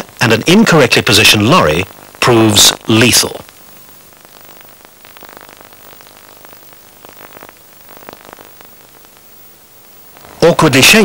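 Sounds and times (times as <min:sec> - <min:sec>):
faint steady hiss: 0:00.0 - 0:11.0
soft crackles and clicks: 0:00.0 - 0:11.0.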